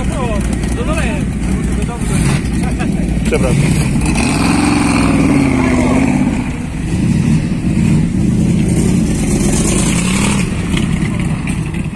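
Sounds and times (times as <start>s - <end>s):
car engine running loud: 0.0s - 11.9s.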